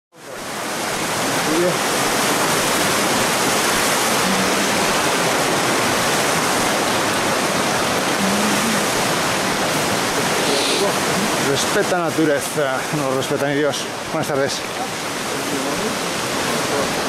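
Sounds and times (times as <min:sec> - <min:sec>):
river rushing over rapids: 0:00.2 - 0:17.0.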